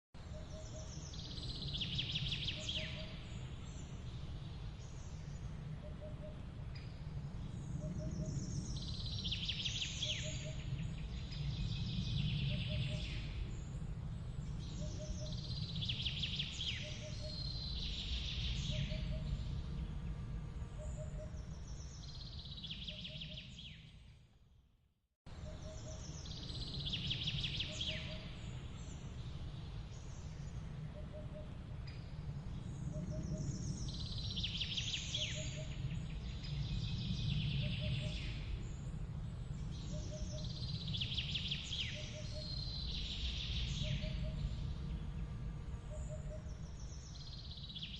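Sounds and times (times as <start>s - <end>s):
songbirds chirping: 0.2s - 24.3s, 25.3s - 47.9s
steady low rumble: 3.1s - 22.8s, 25.3s - 47.9s.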